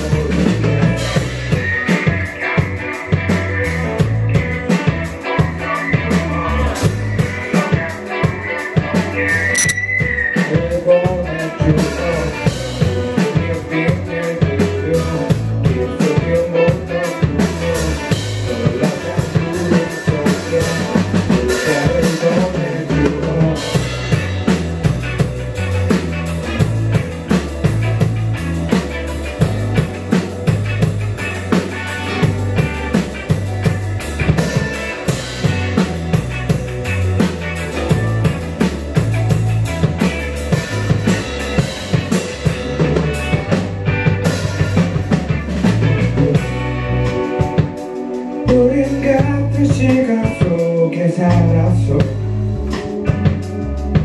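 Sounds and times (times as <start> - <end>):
drum kit beat: 0.0 - 54.0
electric bass: 0.0 - 54.0
electric guitars: 0.0 - 54.0.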